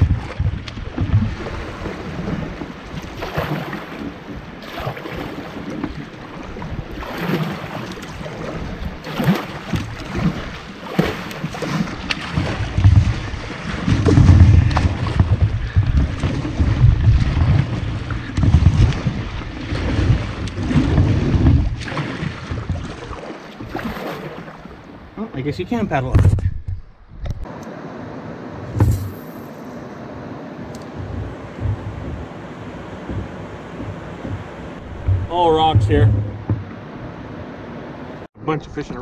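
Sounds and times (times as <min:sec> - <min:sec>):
paddle splashing: 0:00.0 - 0:26.6, 0:28.6 - 0:38.4
wind buffeting microphone: 0:00.0 - 0:27.5, 0:29.8 - 0:38.3
water running along a hull: 0:00.0 - 0:39.0.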